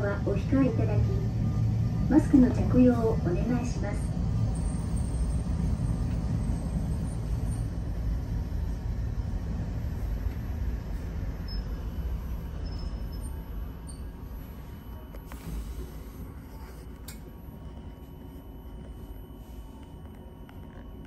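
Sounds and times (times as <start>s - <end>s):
streetcar wheels and motor rumble: 0.0s - 19.2s.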